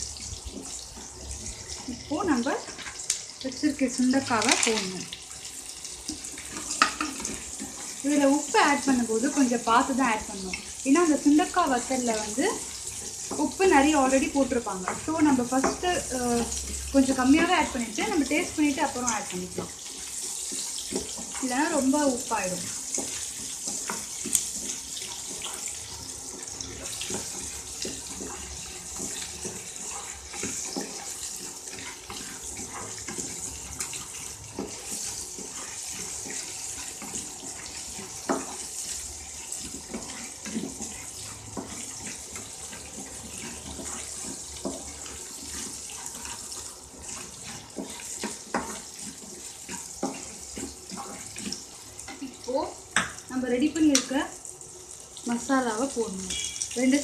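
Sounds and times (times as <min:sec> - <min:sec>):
spatula scraping and knocking pan: 0:00.0 - 0:03.1, 0:04.2 - 0:54.2
food sizzling in oil: 0:00.0 - 0:57.0.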